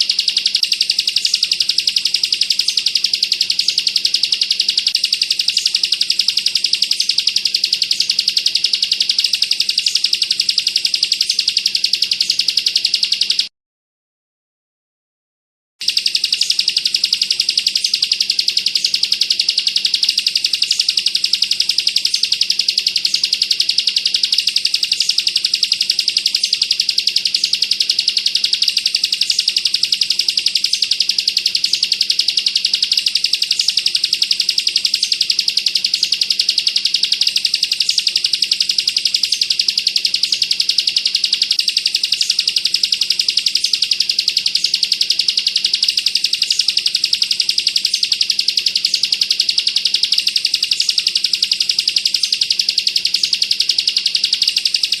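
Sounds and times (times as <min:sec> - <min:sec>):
bird high-pitched trill: 0:00.0 - 0:13.5, 0:15.8 - 0:55.0.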